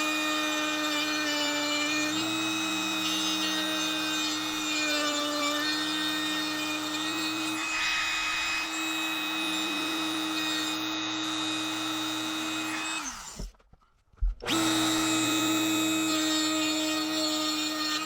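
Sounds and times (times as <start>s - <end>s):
power tool motor whining: 0.0s - 13.6s, 14.4s - 18.0s.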